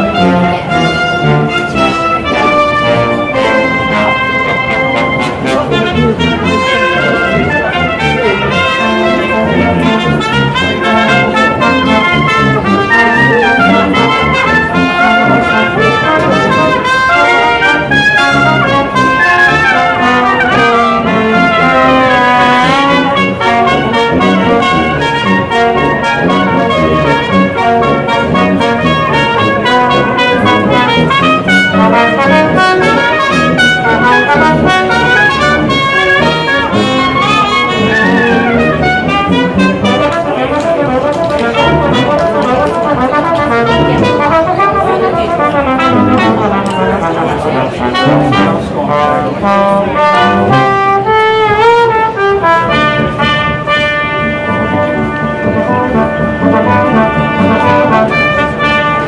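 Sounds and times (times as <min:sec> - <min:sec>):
brass ensemble playing: 0:00.0 - 0:59.0.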